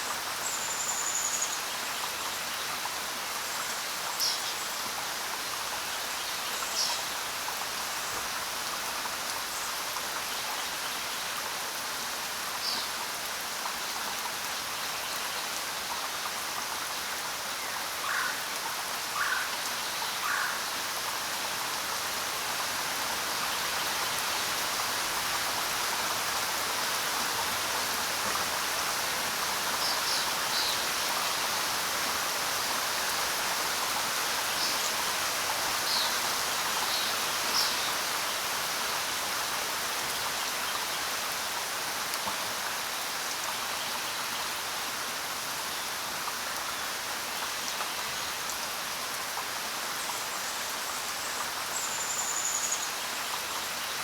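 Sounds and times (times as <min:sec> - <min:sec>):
rain falling on ground: 0:00.0 - 0:54.0.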